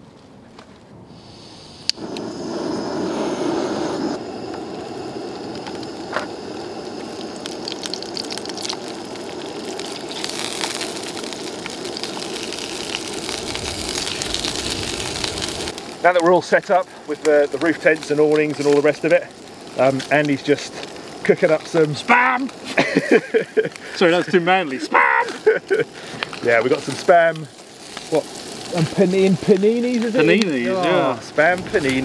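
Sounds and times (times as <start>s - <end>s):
gas burner roaring: 1.1s - 32.0s
meat sizzling in a frying pan: 2.0s - 32.0s.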